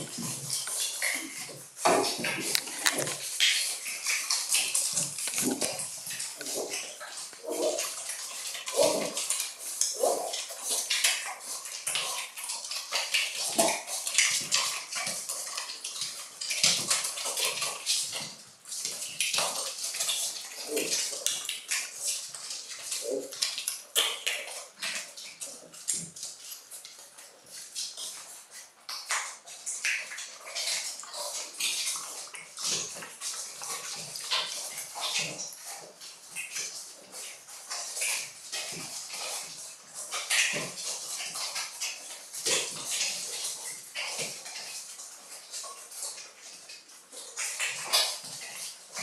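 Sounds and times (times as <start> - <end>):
puppies suckling wet smacking: 0.0 - 49.0
puppy vocal sounds: 0.0 - 49.0.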